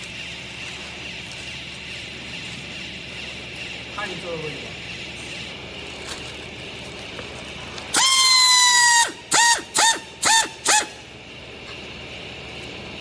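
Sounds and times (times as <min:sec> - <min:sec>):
short motor bursts: 0:00.0 - 0:11.5
pneumatic air motor whine: 0:00.0 - 0:13.0.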